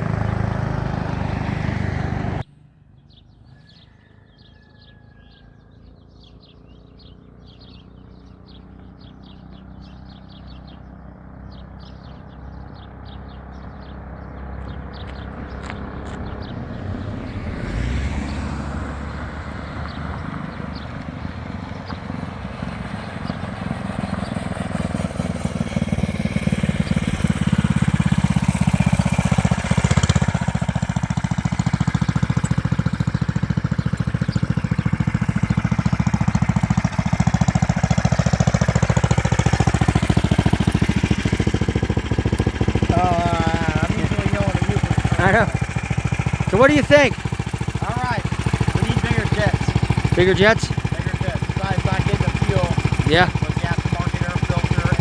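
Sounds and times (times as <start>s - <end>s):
motorcycle engine running: 0.0s - 2.4s, 5.6s - 55.0s.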